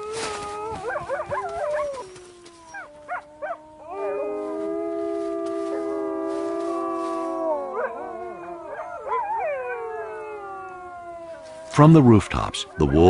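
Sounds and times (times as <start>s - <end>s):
yipping howls: 0.0s - 11.7s
wolves howling in chorus: 0.0s - 13.0s.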